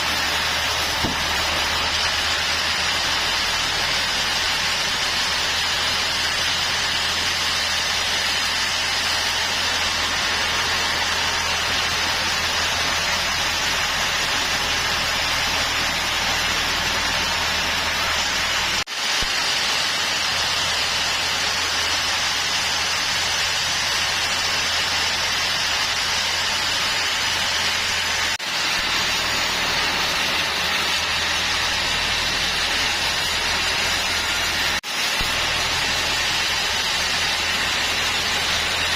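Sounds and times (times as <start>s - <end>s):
sawmill machinery hiss: 0.0s - 38.9s.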